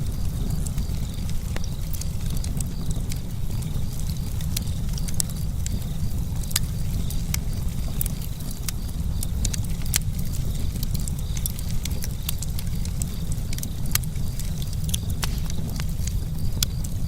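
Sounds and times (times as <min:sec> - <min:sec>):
low rumble of flames: 0:00.0 - 0:17.0
wood crackling and popping: 0:00.0 - 0:17.0.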